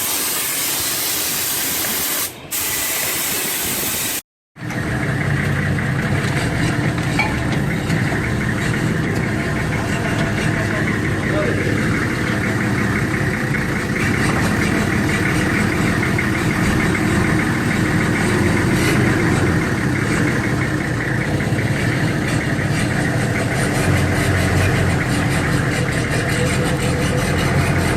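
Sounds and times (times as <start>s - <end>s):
diesel engine idling: 4.6s - 27.9s.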